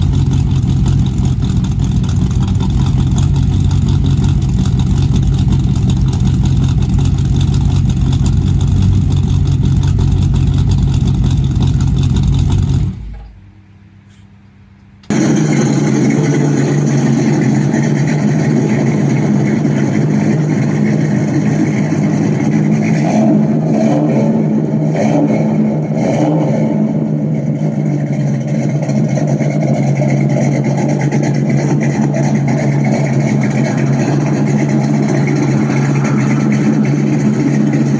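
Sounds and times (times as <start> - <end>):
car engine exhaust rumbling: 0.0 - 37.9.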